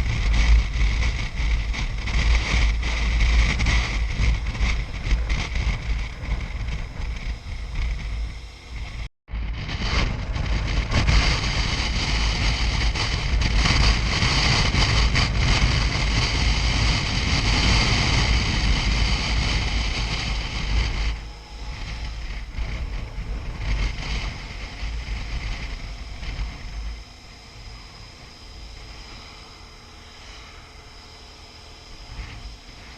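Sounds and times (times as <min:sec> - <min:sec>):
motorcycle low rumble: 0:00.0 - 0:32.9
wind buffeting microphone: 0:00.0 - 0:32.9.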